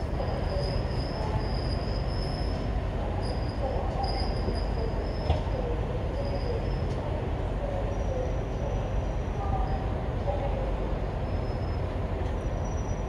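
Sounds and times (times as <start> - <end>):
low rumble from rails: 0.0 - 13.0
train wheels squealing: 0.2 - 7.0, 7.9 - 9.9, 11.2 - 13.0.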